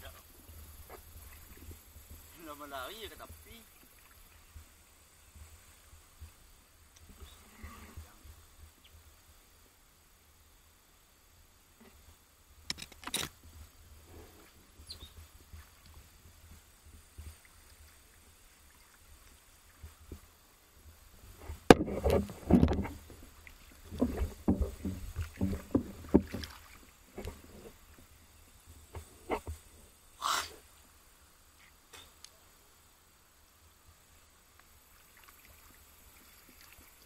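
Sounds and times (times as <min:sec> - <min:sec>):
water splashing in a shallow creek: 0:00.3 - 0:07.4, 0:11.7 - 0:31.9, 0:33.1 - 0:37.0.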